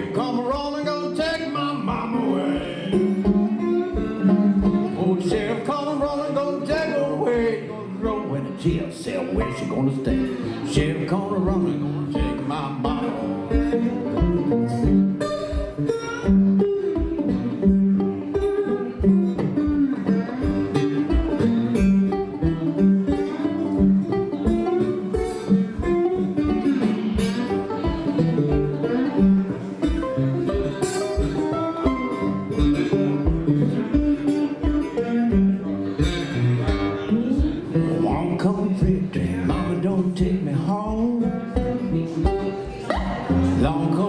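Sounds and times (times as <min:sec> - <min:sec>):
country bluegrass instrumental: 0:00.0 - 0:44.0.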